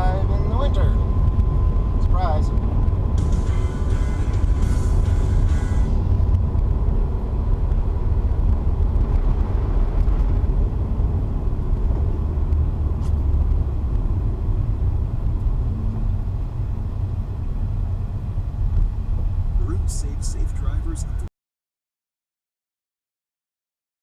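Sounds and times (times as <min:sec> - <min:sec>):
car engine and tyre noise: 0:00.0 - 0:21.3.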